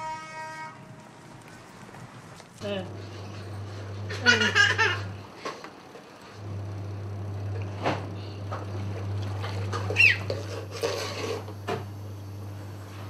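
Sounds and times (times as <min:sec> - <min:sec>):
washing machine humming: 0:00.8 - 0:13.0.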